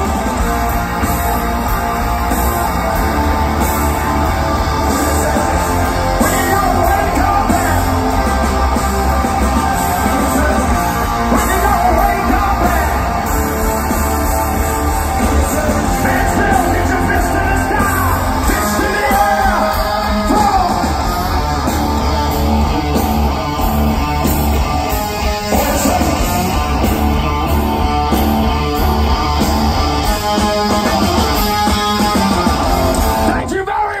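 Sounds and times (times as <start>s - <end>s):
live hard rock band: 0.0s - 34.0s.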